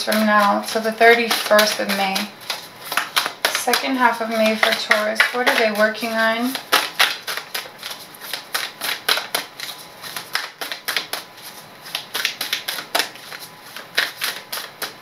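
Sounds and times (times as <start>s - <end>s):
cards being shuffled by hand: 0.0s - 15.0s.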